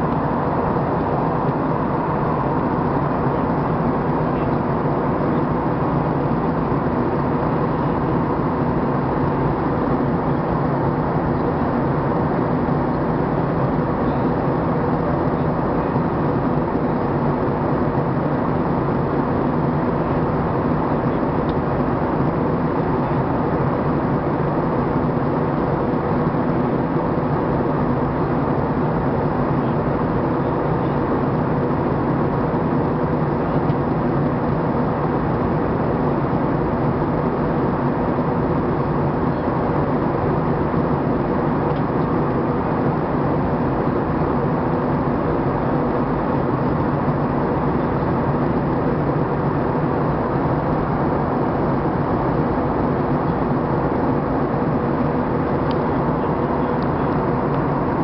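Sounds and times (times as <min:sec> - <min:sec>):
road noise: 0:00.0 - 0:58.0
vehicle engine drone: 0:00.0 - 0:58.0.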